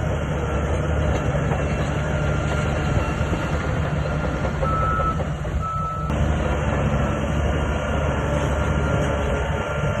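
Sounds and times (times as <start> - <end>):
diesel engine droning under load: 0.0 - 10.0.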